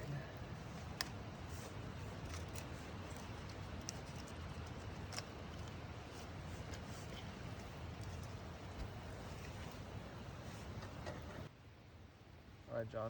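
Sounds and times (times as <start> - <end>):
campfire crackling and popping: 0.0 - 11.2.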